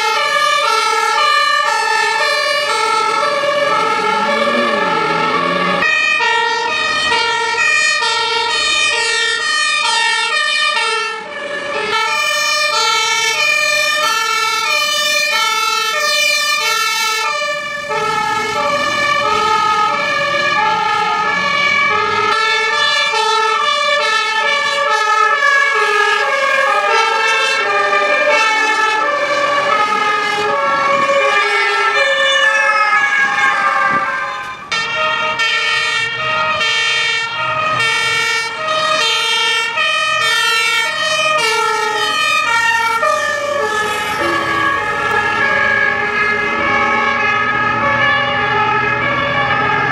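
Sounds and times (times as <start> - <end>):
fire engine two-tone siren: 0.0 - 49.9.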